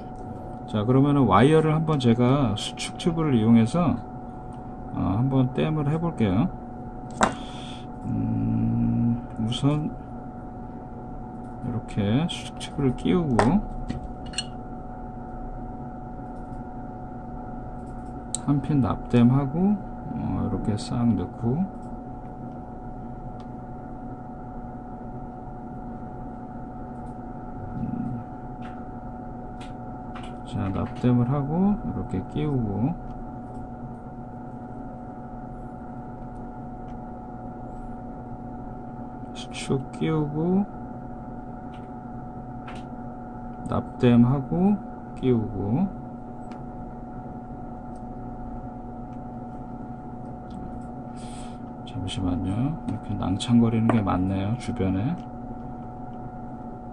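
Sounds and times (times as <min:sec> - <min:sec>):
background hum: 0:00.0 - 0:56.9
thin high whine: 0:00.0 - 0:56.9.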